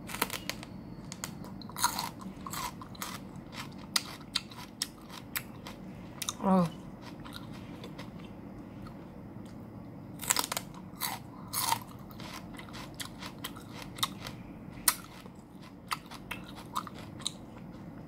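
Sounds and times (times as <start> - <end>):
celery crunching while chewed: 0.1 - 9.6, 10.2 - 17.9.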